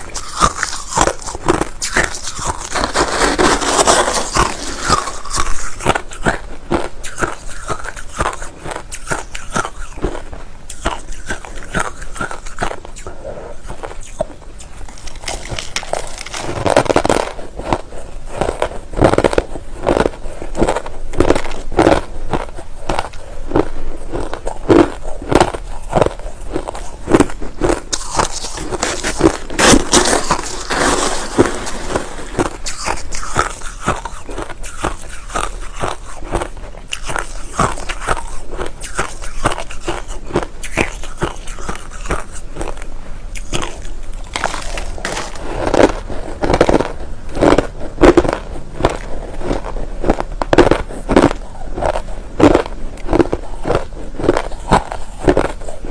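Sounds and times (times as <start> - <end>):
chewing crushed ice: 0.0 - 55.9.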